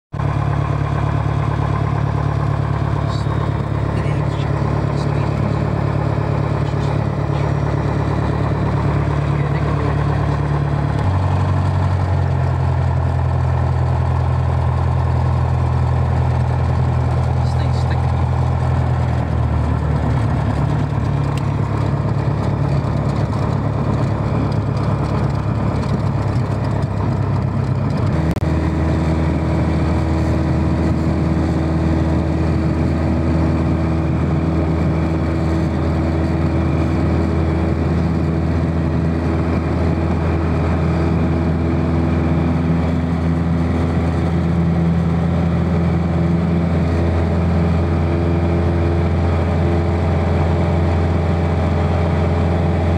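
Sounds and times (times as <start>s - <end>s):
aircraft engine and propeller: 0.2s - 52.9s.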